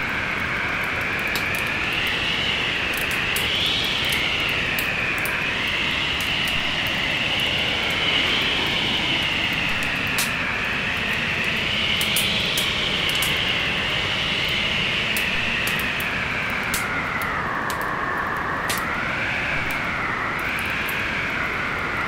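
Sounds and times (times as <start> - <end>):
wood fire crackling: 0.0 - 13.8, 14.5 - 22.0
whistling storm wind: 0.0 - 22.0.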